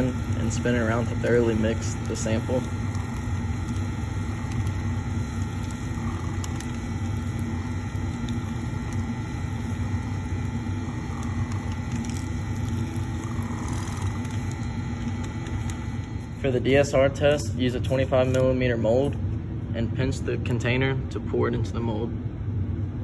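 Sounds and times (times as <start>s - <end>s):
mixer humming: 0.0s - 21.2s.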